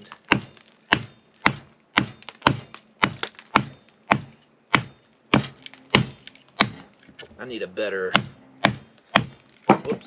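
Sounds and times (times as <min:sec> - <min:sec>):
hatchet chopping wood: 0:00.0 - 0:06.9, 0:08.1 - 0:10.0.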